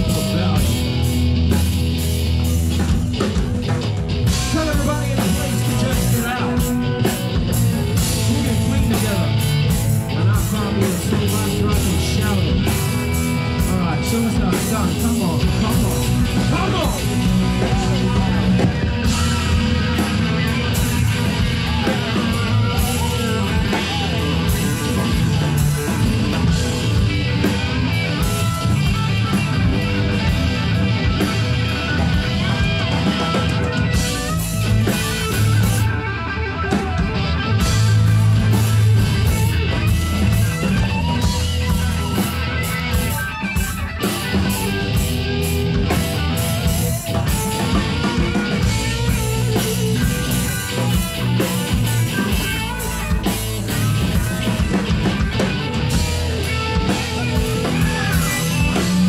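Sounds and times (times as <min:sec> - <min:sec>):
bass guitar: 0:00.0 - 0:59.0
drums: 0:00.0 - 0:59.0
electric guitar lead bending notes: 0:00.0 - 0:59.0.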